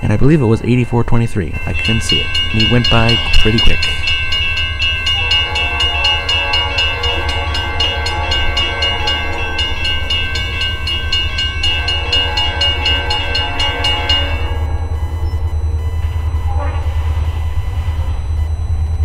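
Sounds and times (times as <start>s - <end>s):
crossing bell ringing: 0.0s - 19.0s
low rumble of train: 0.0s - 19.0s.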